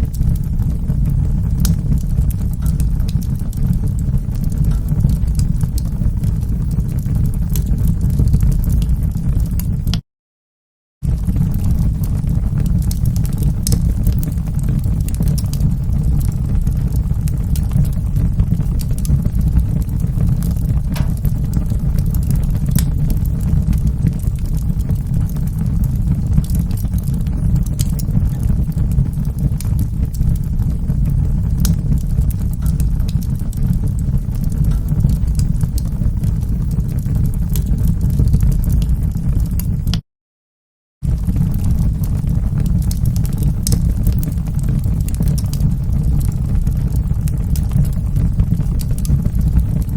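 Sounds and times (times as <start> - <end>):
fire crackling and popping: 0.0 - 10.0, 11.0 - 40.0, 41.0 - 49.9
fire roaring in fireplace: 0.0 - 10.0, 11.0 - 40.0, 41.0 - 49.9.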